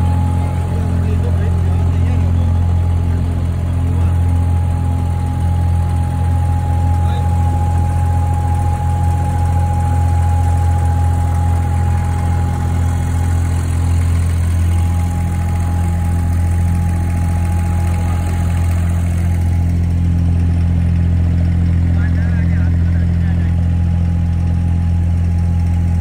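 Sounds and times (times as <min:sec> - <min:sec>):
boat diesel engine drone: 0:00.0 - 0:26.0.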